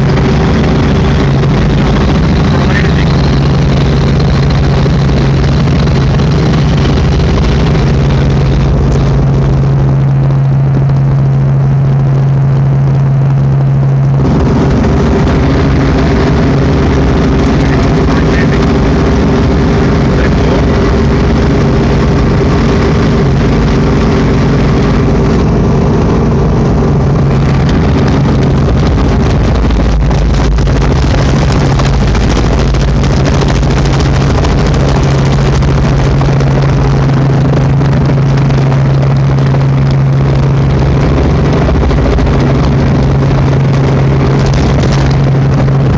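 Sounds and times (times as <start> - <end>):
helicopter cabin roar: 0.0 - 45.9.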